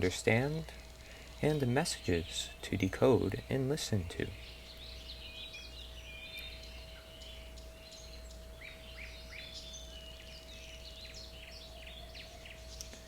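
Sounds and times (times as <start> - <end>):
birds chirping and calling: 0.0 - 13.0
faint steady hum: 0.0 - 13.0.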